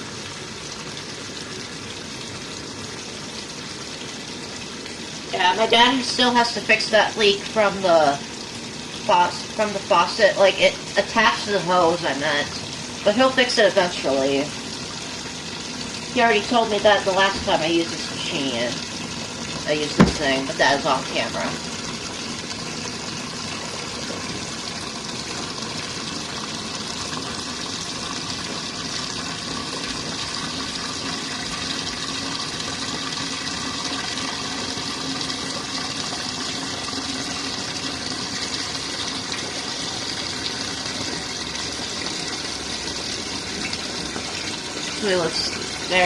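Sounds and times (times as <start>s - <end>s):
water pouring from hose into tub: 0.0s - 46.0s.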